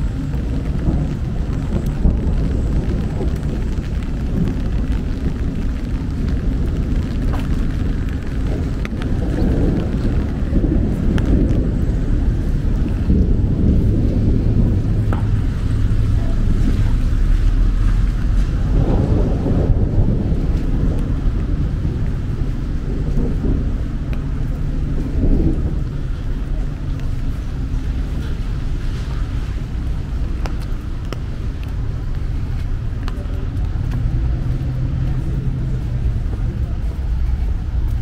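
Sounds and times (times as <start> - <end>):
traffic rumble: 0.0 - 38.0.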